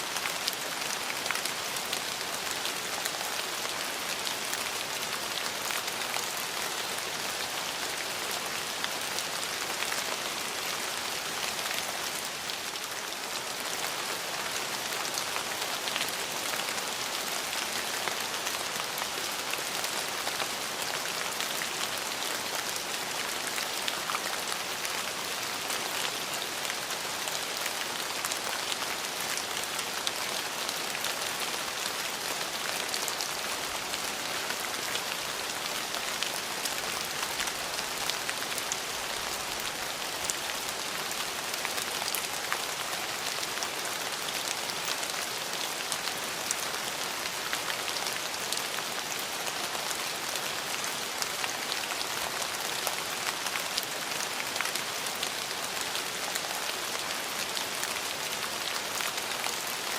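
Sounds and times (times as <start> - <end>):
rain on hard surfaces: 0.0 - 59.9.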